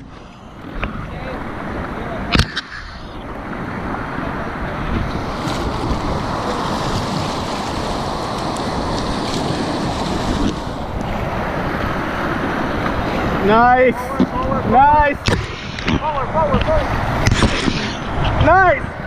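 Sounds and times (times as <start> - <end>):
paddle splashes: 0.0 - 18.6
whitewater rapids rushing: 0.0 - 19.0.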